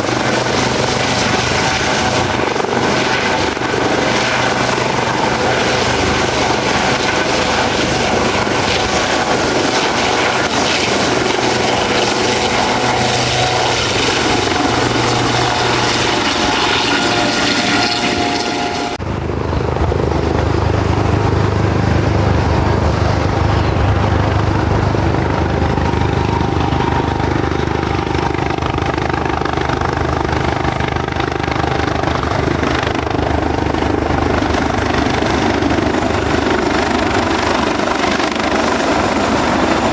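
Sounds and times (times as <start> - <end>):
helicopter turbine whine and rotor: 0.0 - 39.9.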